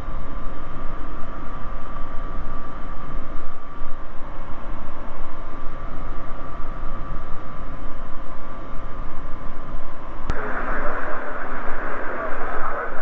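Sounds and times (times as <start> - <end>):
aircraft engine and propeller drone: 0.0 - 13.0
faint constant whine: 0.0 - 13.0.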